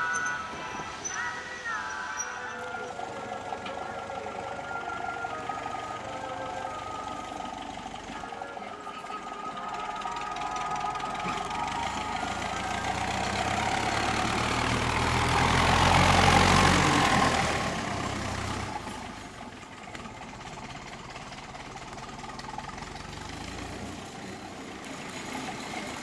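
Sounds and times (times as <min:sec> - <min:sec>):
heavy engine passing by: 0:00.0 - 0:26.0.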